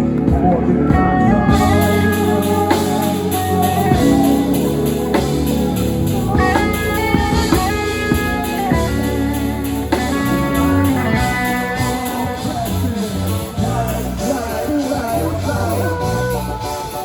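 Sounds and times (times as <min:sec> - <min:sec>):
instrumental guitar and bass music: 0:00.0 - 0:17.0.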